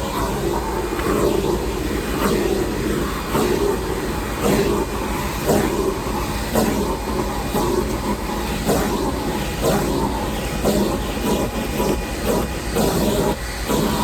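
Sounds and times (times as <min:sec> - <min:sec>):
shop vacuum surging suction: 0:00.0 - 0:14.0.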